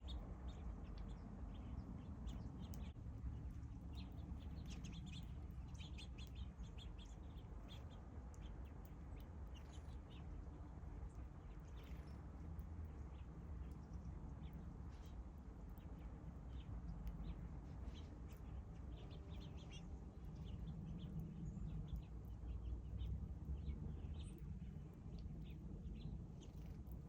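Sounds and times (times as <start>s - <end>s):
small birds chirping: 0.0s - 27.0s
steady low rumble: 0.0s - 27.0s.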